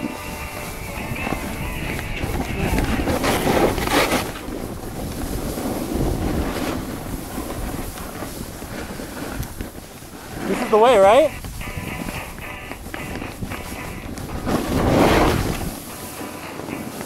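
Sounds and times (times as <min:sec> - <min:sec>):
snowboard sliding over snow: 0:00.0 - 0:17.0
wind rushing over microphone: 0:00.0 - 0:17.0.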